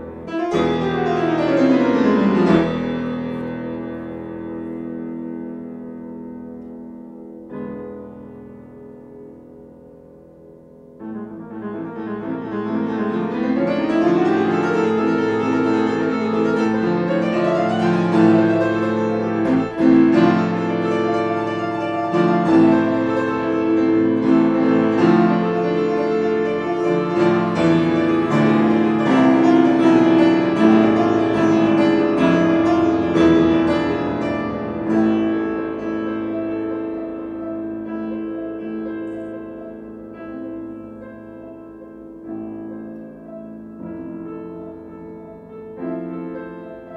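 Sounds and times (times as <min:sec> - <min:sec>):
fast solo piano passages: 0:00.0 - 0:46.9.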